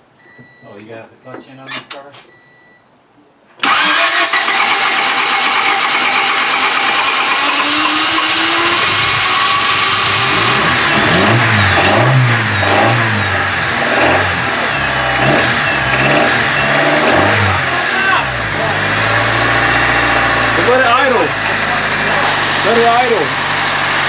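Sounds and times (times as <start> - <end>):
car engine revving: 3.6 - 24.0
engine cranked by starter: 3.6 - 24.0.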